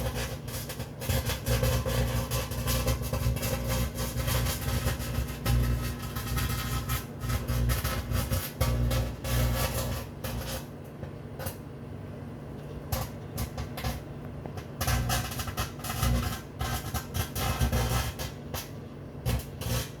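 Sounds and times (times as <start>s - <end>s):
plasma arcing crackling: 0.0s - 10.8s, 12.9s - 20.0s
microwave oven humming: 0.0s - 20.0s.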